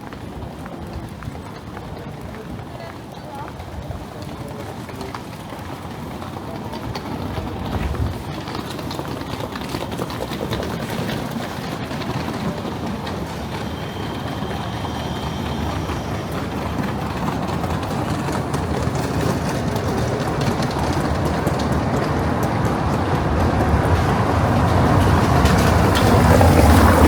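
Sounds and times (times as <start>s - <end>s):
city traffic on wet streets: 0.0s - 27.0s.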